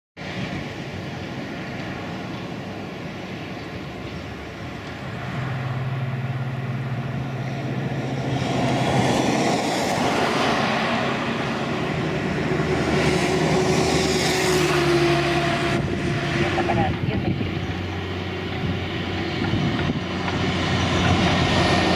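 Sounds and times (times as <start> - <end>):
high engine whine: 0.2 - 21.9
jet engines rushing: 0.2 - 21.9.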